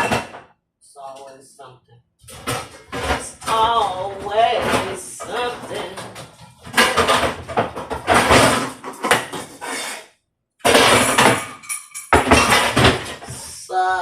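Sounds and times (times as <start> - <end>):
dishes and pans clattering: 0.0 - 0.4, 2.2 - 13.4.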